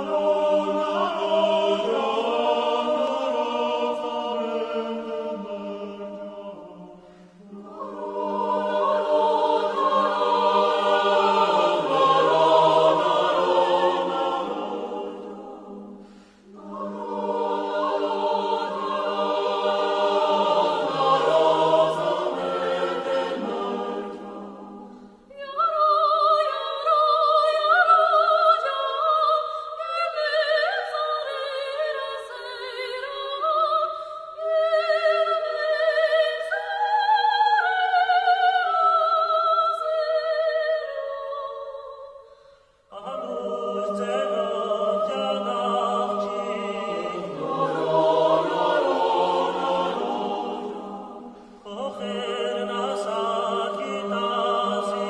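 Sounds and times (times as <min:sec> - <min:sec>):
mixed choir singing folk song: 0:00.0 - 0:42.1, 0:42.9 - 0:55.0.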